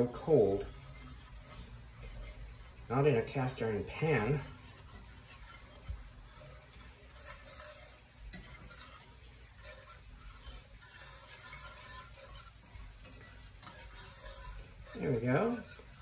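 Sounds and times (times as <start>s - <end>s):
whisk swishing and scraping in pan: 0.0s - 16.0s
whisk wires clicking against pan: 0.0s - 16.0s.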